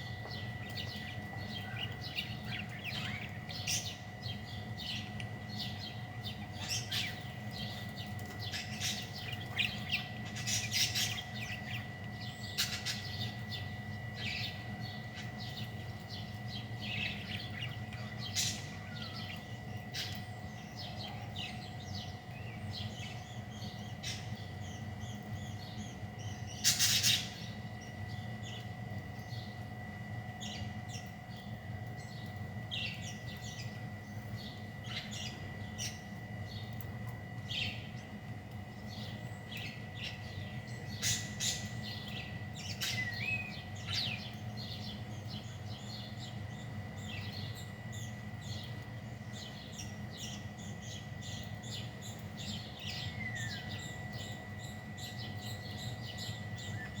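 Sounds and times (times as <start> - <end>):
birds chirping: 0.0 - 57.0
steady low hum: 0.0 - 57.0.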